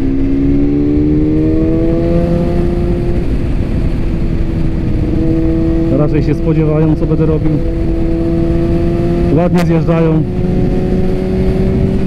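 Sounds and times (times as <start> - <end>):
motorcycle engine under throttle: 0.0 - 12.0
wind and road rush: 0.0 - 12.0.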